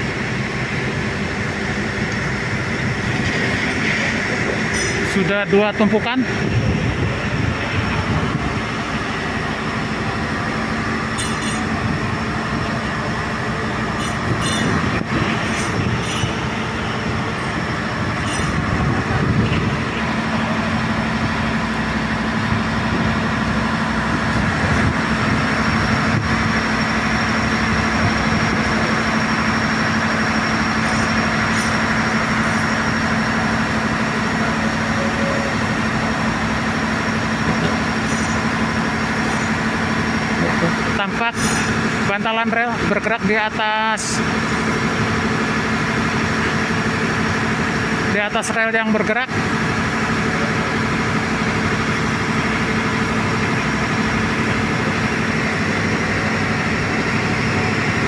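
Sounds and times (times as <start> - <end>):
machine humming and whining: 0.0 - 58.0.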